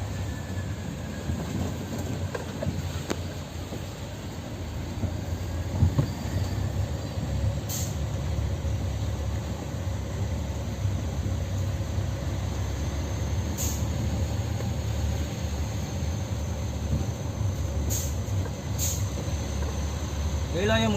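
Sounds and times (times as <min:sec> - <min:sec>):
heavy vehicle engine rumbling: 0:00.0 - 0:20.9.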